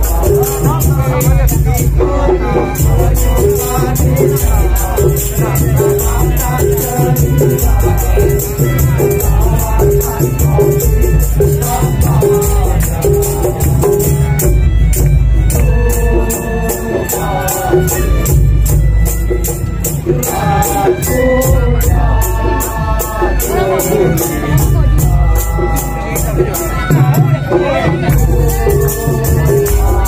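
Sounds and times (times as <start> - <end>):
deep pounding drums: 0.0 - 30.0
rattling shaker and jingle beat: 0.0 - 30.0.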